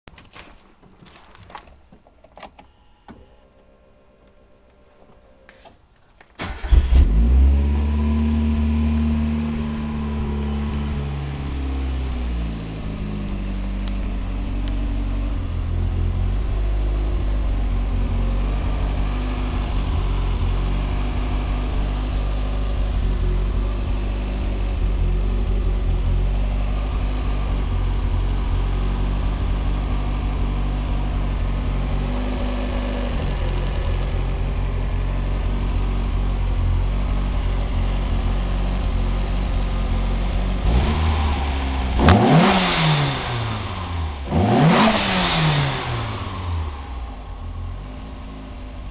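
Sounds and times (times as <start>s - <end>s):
car engine idling: 6.4s - 48.9s.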